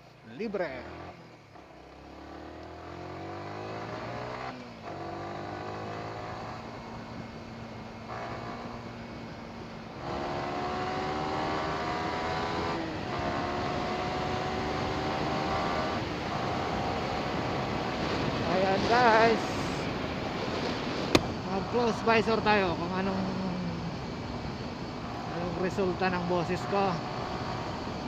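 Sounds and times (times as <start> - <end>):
motorcycle engine accelerating: 0.7 - 28.0.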